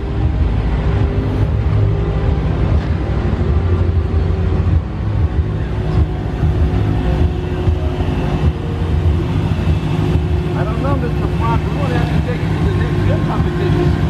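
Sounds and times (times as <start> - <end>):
constant hum: 0.0 - 14.0
vehicle engines rumbling: 0.0 - 14.0.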